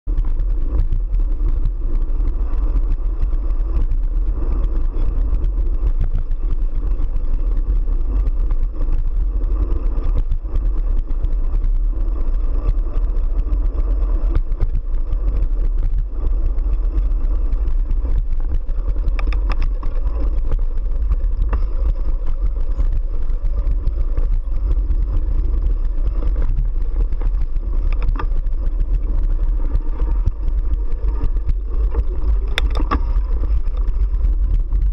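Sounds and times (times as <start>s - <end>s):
bike tyres rumbling over dirt: 0.0s - 34.9s
bike rattles and clicks: 0.1s - 34.9s.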